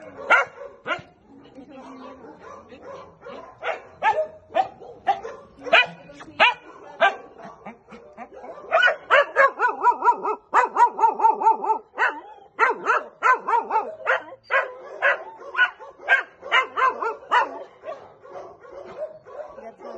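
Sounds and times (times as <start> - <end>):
dog barking excitedly: 0.0 - 1.2, 1.8 - 19.9.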